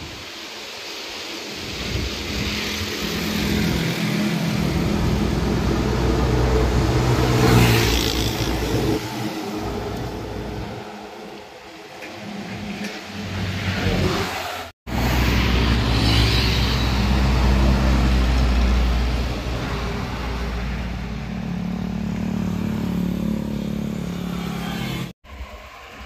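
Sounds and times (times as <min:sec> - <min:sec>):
trucks passing: 0:01.2 - 0:26.0.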